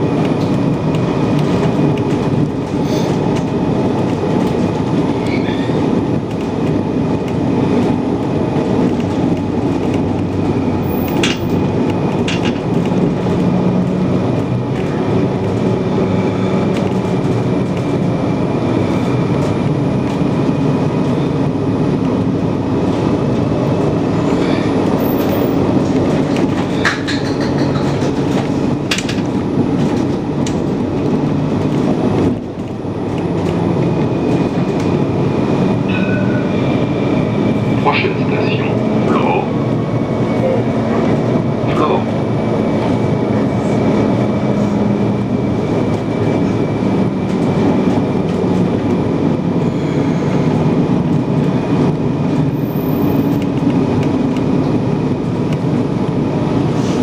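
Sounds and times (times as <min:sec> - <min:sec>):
wheels clicking on rails: 0:00.0 - 0:37.7, 0:42.2 - 0:57.0
tram running noise: 0:00.0 - 0:57.0.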